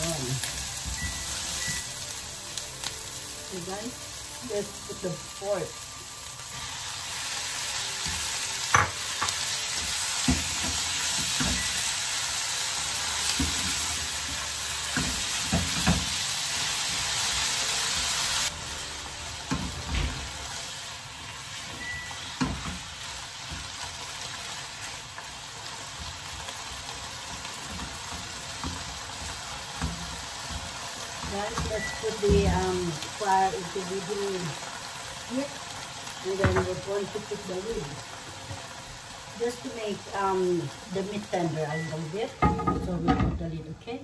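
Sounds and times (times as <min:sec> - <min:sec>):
meat sizzling in hot oil: 0:00.0 - 0:42.8.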